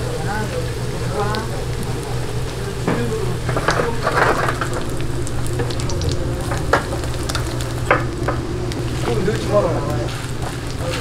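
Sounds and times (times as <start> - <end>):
batter sizzling in a frying pan: 0.0 - 11.0.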